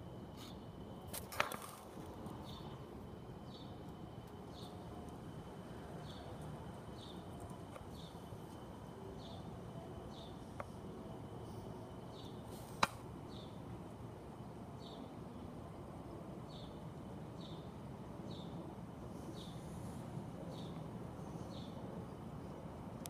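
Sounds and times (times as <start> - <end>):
low steady background noise: 0.0 - 23.0.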